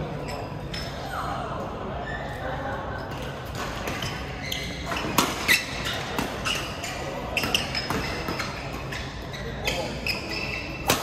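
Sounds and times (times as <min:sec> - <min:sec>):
shoes squeaking on court floor: 0:00.0 - 0:01.4, 0:02.0 - 0:11.0.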